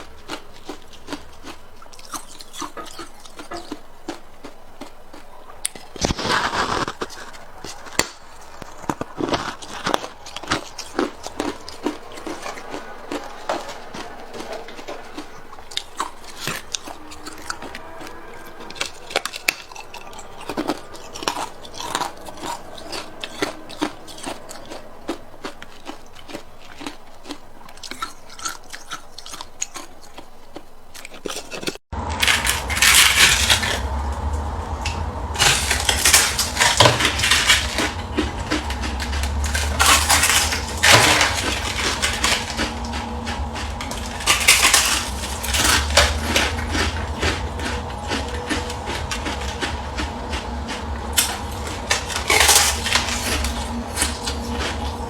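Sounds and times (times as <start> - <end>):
ice being chewed: 0.0 - 55.0
low hum: 0.0 - 55.0.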